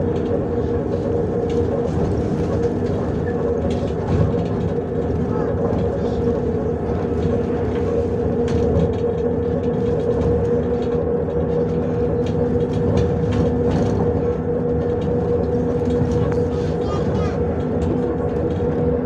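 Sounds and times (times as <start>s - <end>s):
bus body clicks and rattles: 0.0s - 19.0s
bus engine drone with whine: 0.0s - 19.0s.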